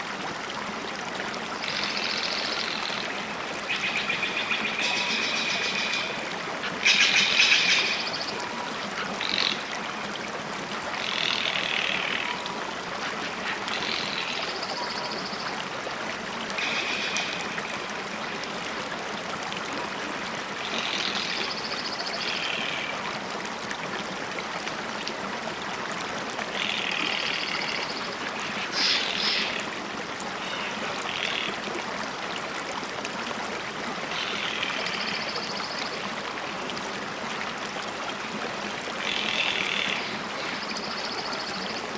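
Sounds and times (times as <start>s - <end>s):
flowing stream water: 0.0s - 41.9s.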